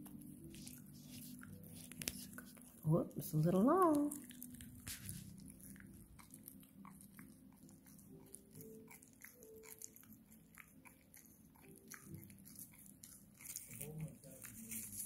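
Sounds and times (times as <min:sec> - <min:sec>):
dog gnawing a chew stick: 0:00.0 - 0:15.0.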